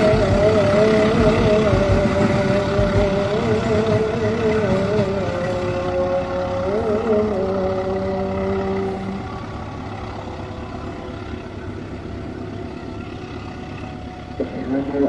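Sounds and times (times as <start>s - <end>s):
heavy diesel engine running: 0.0s - 15.0s
low steady rumble: 0.0s - 15.0s.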